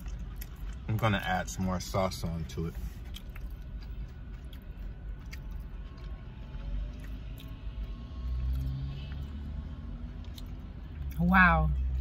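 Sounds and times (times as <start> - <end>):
chewing: 0.0 - 11.2.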